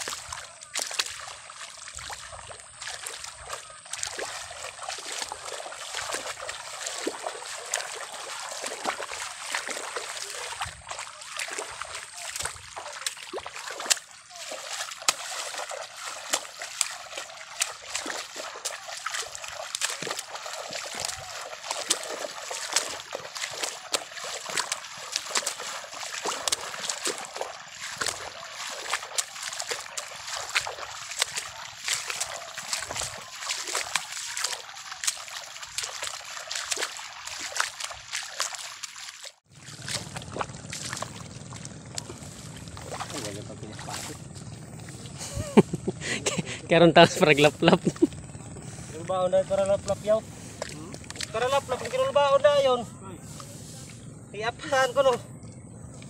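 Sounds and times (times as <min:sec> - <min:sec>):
seedling bundles splashing: 0:00.0 - 0:56.0
wading through muddy water: 0:00.0 - 0:56.0.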